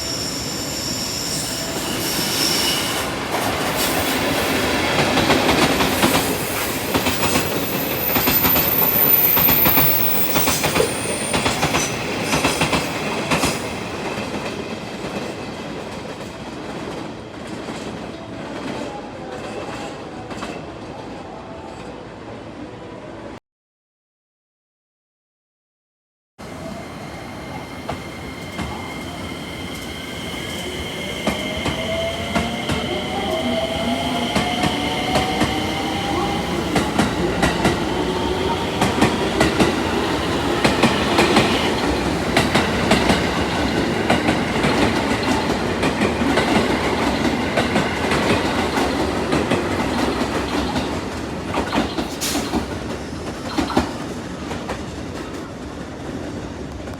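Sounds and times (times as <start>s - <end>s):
train passing: 0.0s - 23.4s, 26.4s - 56.9s.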